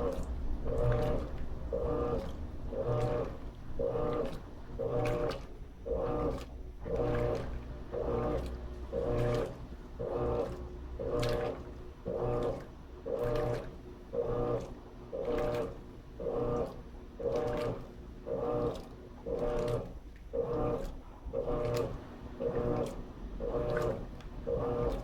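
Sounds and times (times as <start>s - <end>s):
washing machine agitator humming: 0.0s - 25.0s
water and laundry sloshing: 0.0s - 25.0s.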